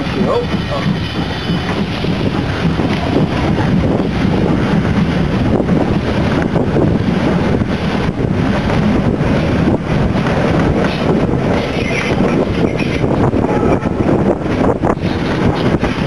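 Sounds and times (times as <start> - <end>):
train rumbling along track: 0.0 - 16.0
wind buffeting microphone: 0.0 - 16.0.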